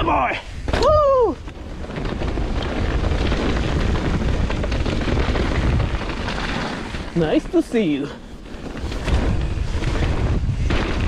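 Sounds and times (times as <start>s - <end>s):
bike tyres rumbling on dirt: 0.0s - 11.0s
bike clattering over rocks: 0.6s - 11.0s.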